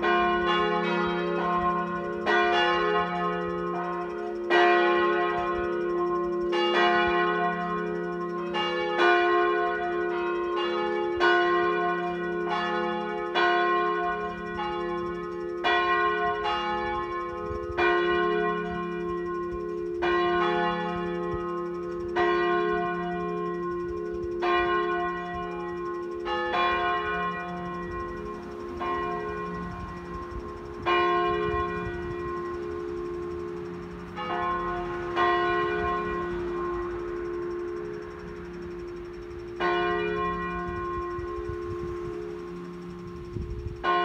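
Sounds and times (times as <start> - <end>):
church bells ringing together: 0.0 - 44.0
low bell hum: 0.0 - 44.0.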